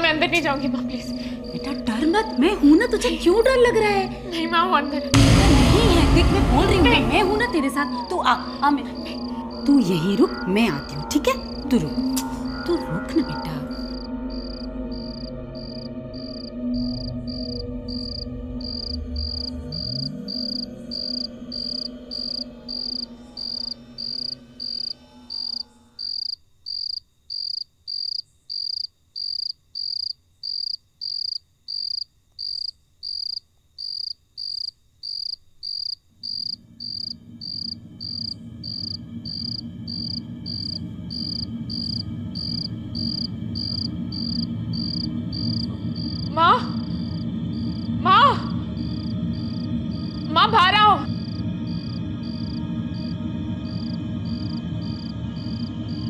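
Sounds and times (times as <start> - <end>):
low drone: 0.0 - 26.0, 36.5 - 56.0
cricket chirping: 0.0 - 56.0.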